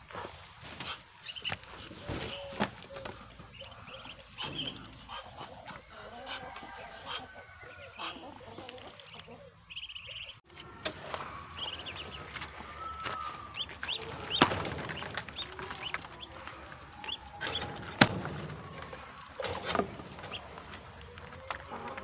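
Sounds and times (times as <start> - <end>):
ducklings peeping: 0.1 - 22.0.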